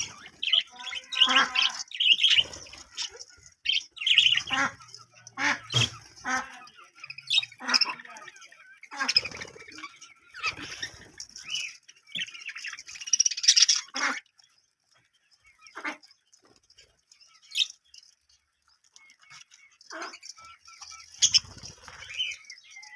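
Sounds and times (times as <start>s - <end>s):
budgerigars chattering and squawking: 0.0s - 22.9s.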